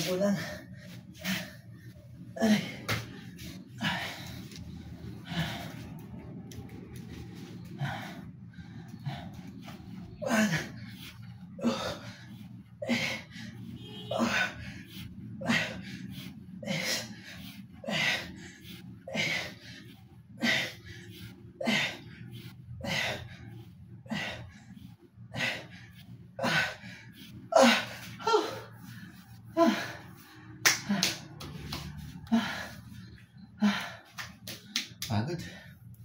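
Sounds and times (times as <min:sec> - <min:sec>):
man breathing hard and grunting: 0:00.0 - 0:36.0
steady low hum: 0:00.0 - 0:36.0.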